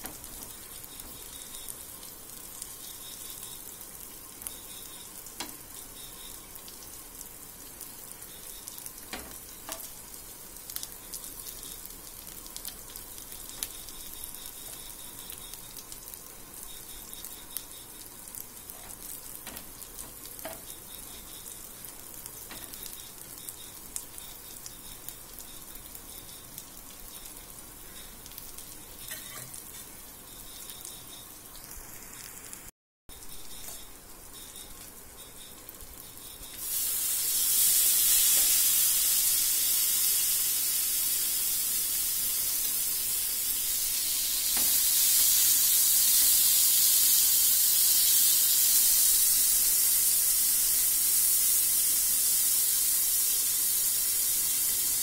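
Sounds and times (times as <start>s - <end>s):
food sizzling in hot oil: 0.0s - 55.0s
loud hissing sizzle: 0.0s - 55.0s.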